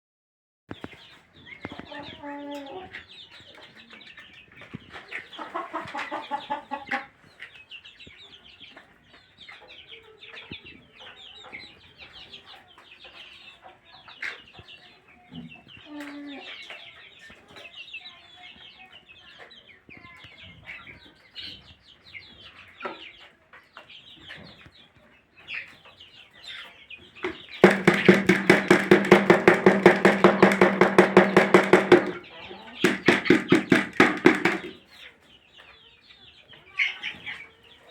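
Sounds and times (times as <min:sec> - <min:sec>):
chickens clucking: 0:00.7 - 0:37.9.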